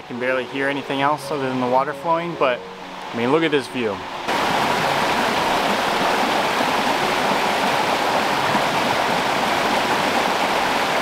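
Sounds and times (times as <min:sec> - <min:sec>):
brook water rushing over rocks: 0:00.0 - 0:11.0.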